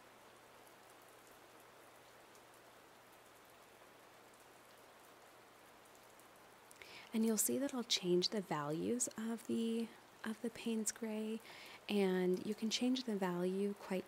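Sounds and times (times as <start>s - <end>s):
faint room tone hiss: 0.0s - 14.0s.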